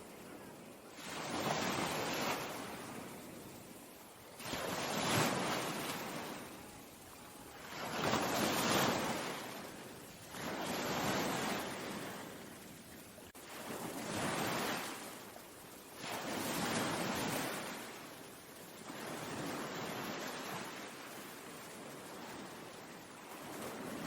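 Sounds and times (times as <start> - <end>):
ocean waves washing in: 0.0 - 24.0.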